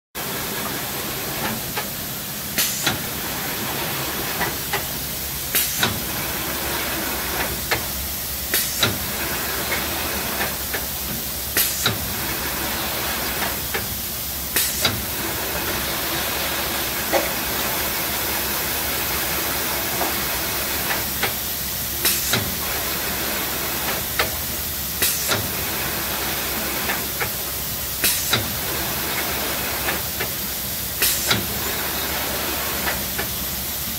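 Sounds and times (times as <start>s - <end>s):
machine hiss: 0.2s - 33.9s.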